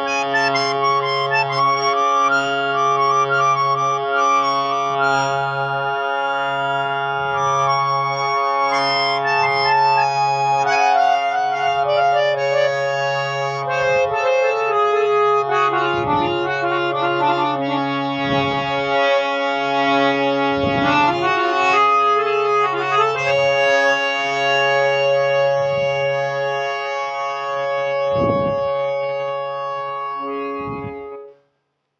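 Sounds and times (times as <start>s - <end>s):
harmonium melody over drone: 0.0s - 31.4s.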